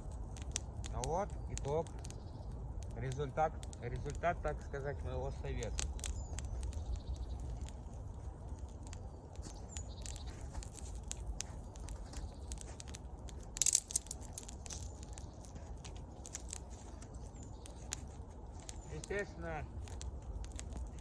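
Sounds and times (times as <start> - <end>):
campfire crackling and popping: 0.0 - 21.0
loud fire snaps: 0.0 - 21.0.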